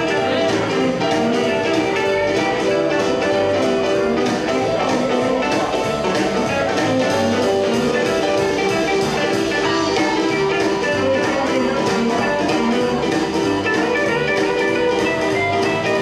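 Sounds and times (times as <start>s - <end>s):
drums: 0.0s - 16.0s
electric guitar: 0.0s - 16.0s
upright bass: 0.0s - 16.0s.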